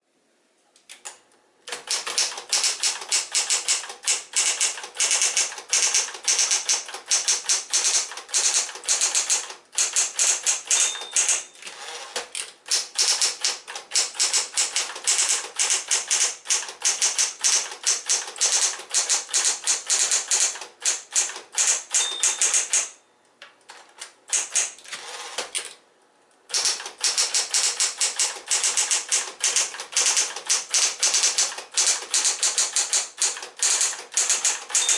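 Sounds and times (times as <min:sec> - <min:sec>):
electric typewriter typing fast: 0:01.7 - 0:23.0, 0:24.3 - 0:25.6, 0:26.5 - 0:34.9.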